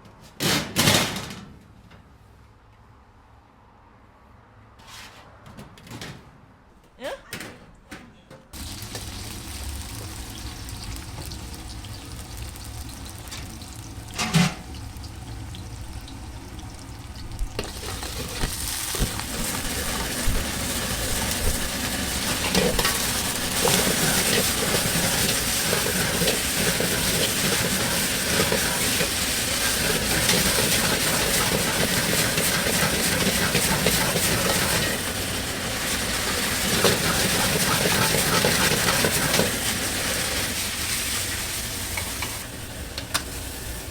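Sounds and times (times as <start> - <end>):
food sizzling in a pan: 8.6 - 43.9.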